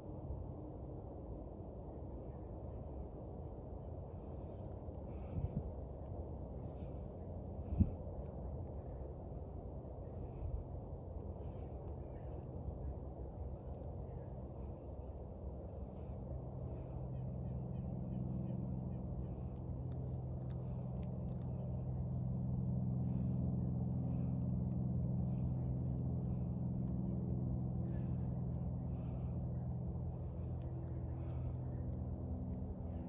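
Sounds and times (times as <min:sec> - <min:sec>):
low engine hum: 0:00.0 - 0:33.0.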